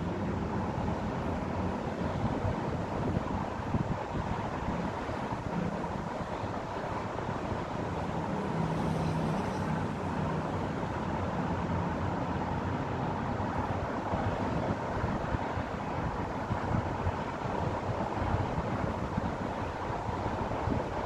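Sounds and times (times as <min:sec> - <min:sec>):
distant road traffic: 0:00.0 - 0:21.0.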